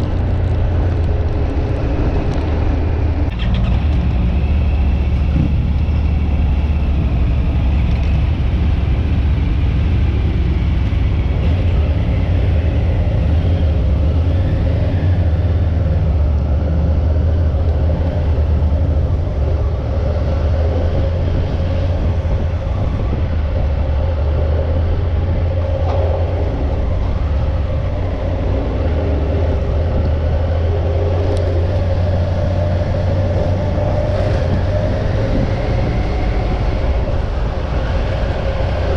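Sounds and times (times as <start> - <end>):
motorcycle engine drone: 0.0 - 38.9
road and wind noise: 0.0 - 38.9.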